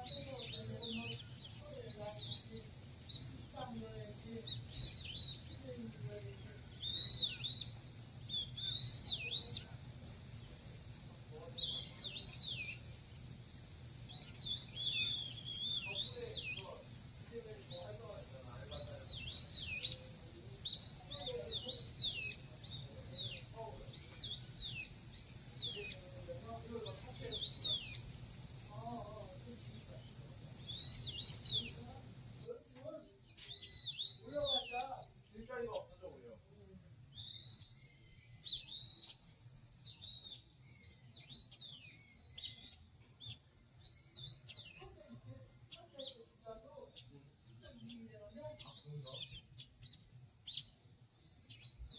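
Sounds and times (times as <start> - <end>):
bird whistled calls: 0.0 - 10.8, 11.4 - 13.2, 13.9 - 32.5, 33.4 - 35.1, 37.1 - 45.0, 48.5 - 51.9
high insect drone: 0.0 - 51.9
songbird singing: 0.0 - 51.9.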